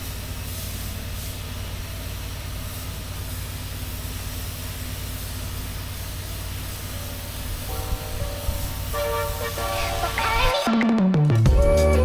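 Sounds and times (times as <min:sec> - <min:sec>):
hiss of water spray: 0:00.0 - 0:10.6
pressure washer motor hum: 0:00.0 - 0:10.6.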